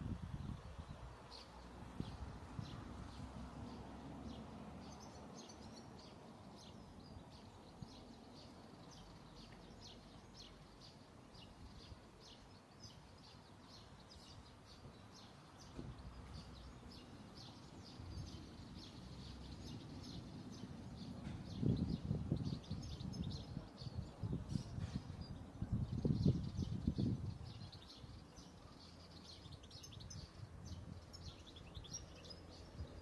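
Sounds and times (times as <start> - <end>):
faint low background noise: 0.0 - 33.0
small birds chirping: 0.0 - 33.0.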